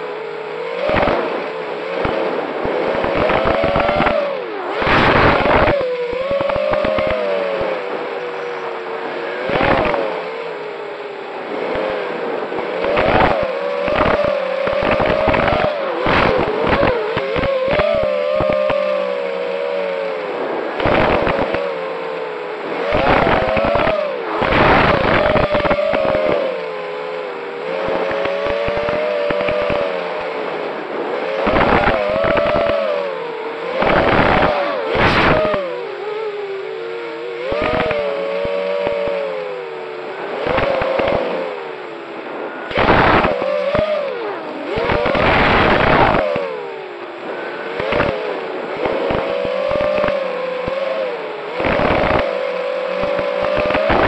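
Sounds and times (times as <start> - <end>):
loud rushes of noise: 0.0 - 54.0
quadcopter drones buzzing: 0.0 - 54.0.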